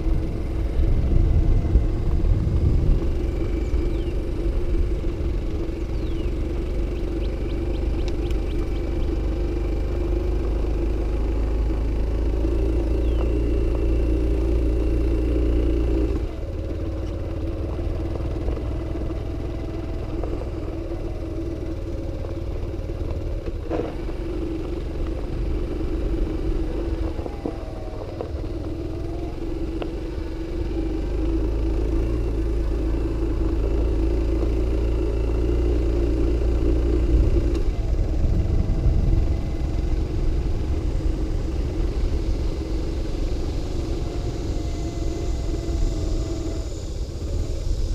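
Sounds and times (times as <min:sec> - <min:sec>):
wind rumble: 0:00.0 - 0:14.5, 0:16.1 - 0:47.9
vehicle engine running: 0:00.0 - 0:47.9.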